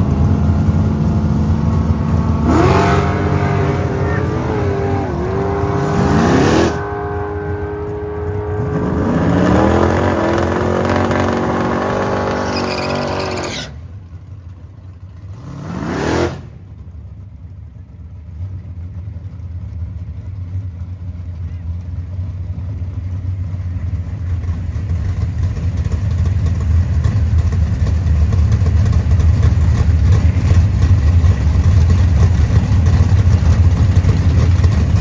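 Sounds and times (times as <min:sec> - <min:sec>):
engine idling rumble: 0:00.0 - 0:06.0, 0:06.8 - 0:15.6, 0:16.4 - 0:35.0
race car engines revving: 0:00.0 - 0:35.0.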